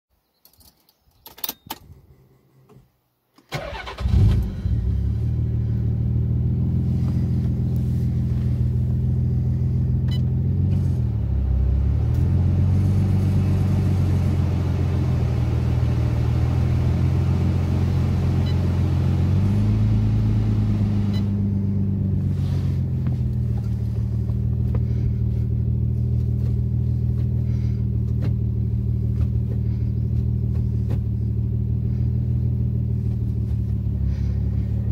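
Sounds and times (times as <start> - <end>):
car engine starting and idling: 3.4 - 34.9.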